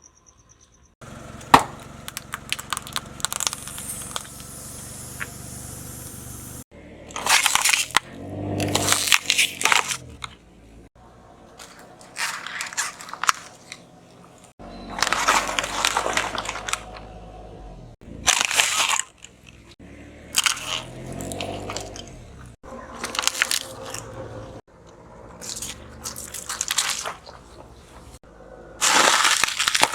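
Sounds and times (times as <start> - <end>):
faint car engine: 0.0 - 29.9
tyres crushing crunchy objects: 1.0 - 5.5, 7.0 - 17.2, 18.0 - 29.9.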